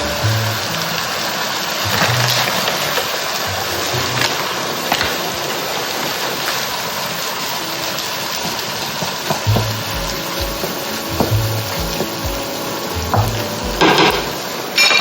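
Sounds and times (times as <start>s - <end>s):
meat sizzling in a frying pan: 0.0s - 15.0s
quiet background music: 0.0s - 15.0s.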